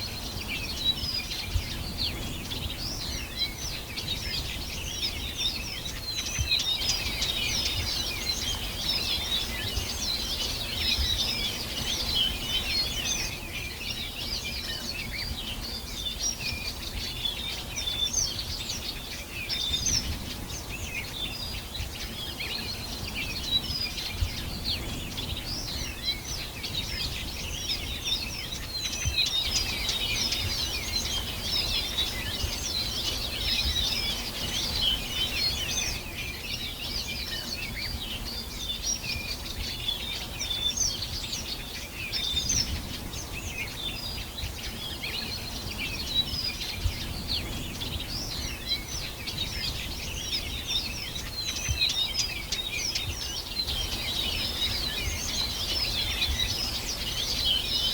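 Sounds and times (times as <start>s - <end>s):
birds chirping and singing: 0.0s - 57.9s.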